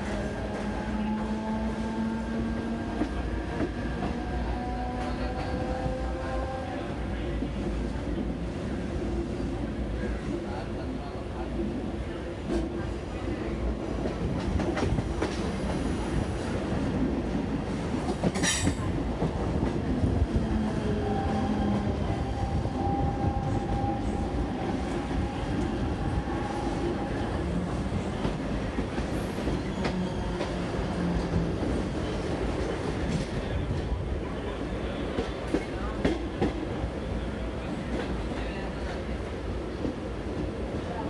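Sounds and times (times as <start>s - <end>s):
train passing close by: 0.0s - 41.0s
train wheels rumbling on rails: 0.0s - 41.0s.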